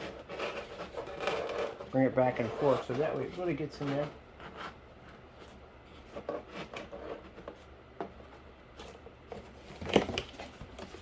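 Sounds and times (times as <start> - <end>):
cardboard rubbing and tapping: 0.0 - 11.0.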